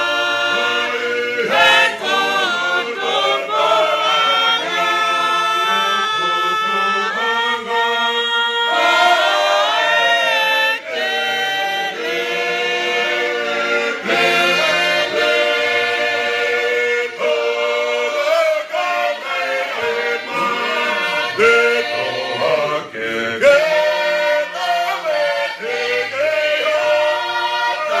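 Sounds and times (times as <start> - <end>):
group singing in harmony: 0.0 - 28.0.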